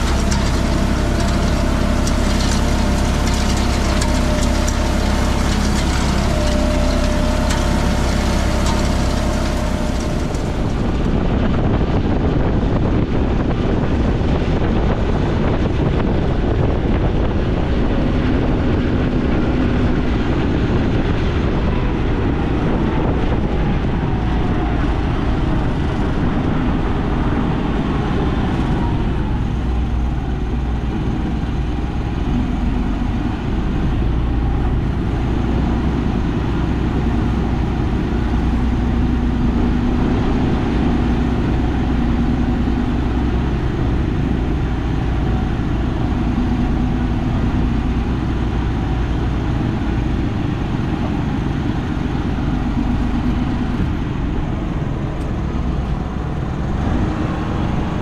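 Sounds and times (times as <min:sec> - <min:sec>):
tractor engine running: 0:00.0 - 0:58.0
wind noise on microphone: 0:00.0 - 0:58.0.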